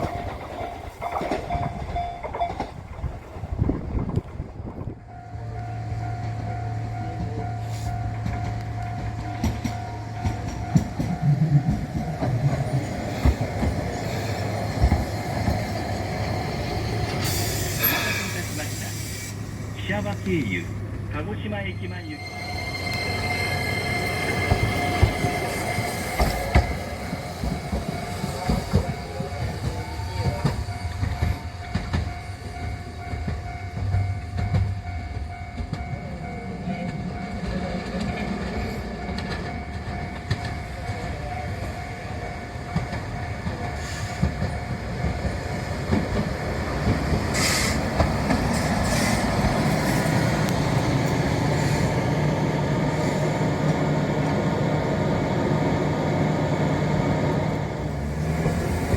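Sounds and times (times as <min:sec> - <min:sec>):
crossing ringing tone: 0:00.0 - 0:03.2, 0:04.8 - 0:19.1, 0:19.8 - 0:55.3
train wheels clattering over rails: 0:00.0 - 0:04.9, 0:06.2 - 0:19.2, 0:22.2 - 0:53.9, 0:57.8 - 0:58.9.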